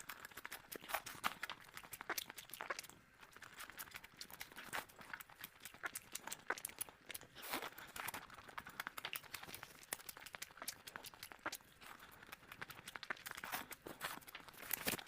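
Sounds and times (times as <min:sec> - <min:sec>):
crunchy chewing: 0:00.0 - 0:15.0
wet mouth noises: 0:00.0 - 0:15.0.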